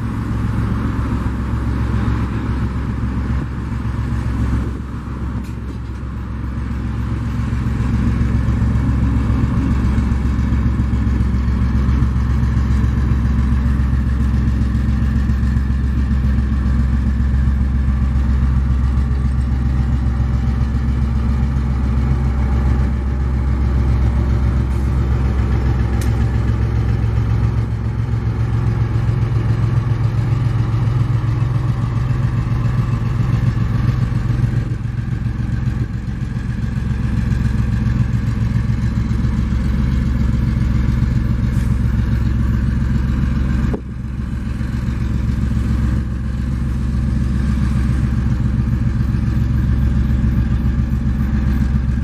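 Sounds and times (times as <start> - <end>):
diesel locomotive engine throbbing: 0.0 - 52.0.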